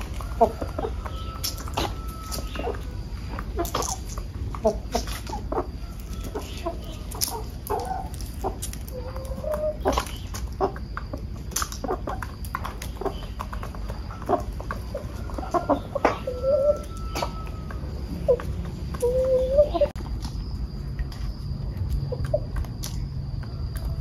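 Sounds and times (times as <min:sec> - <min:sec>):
beaks pecking grain on concrete: 0:00.0 - 0:24.0
roosters calling: 0:00.0 - 0:24.0.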